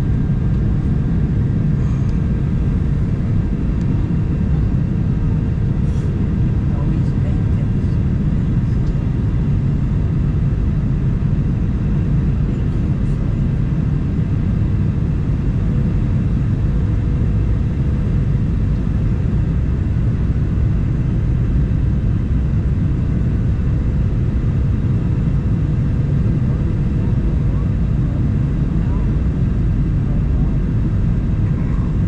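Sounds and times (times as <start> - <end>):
faint steady hum: 0.0 - 32.0
jet engine cabin rumble: 0.0 - 32.0.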